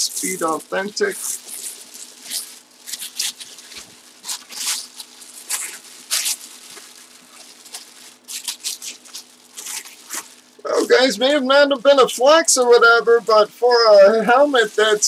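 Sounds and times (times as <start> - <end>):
plastic bag and bubble wrap crinkling: 0.0 - 15.0.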